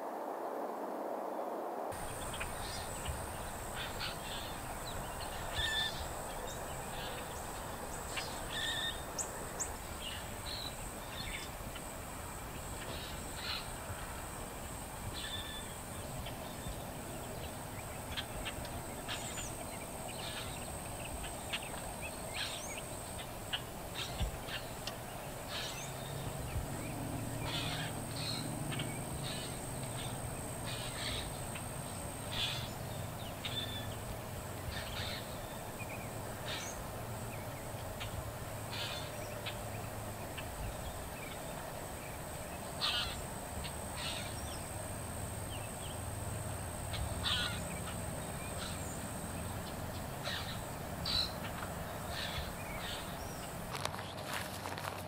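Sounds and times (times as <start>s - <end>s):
background hiss: 0.0s - 55.0s
birds calling: 2.0s - 55.0s.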